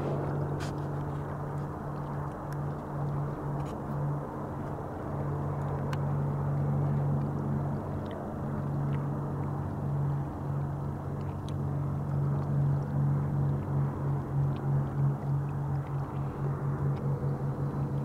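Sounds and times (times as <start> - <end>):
even wash of noise: 0.0 - 18.0.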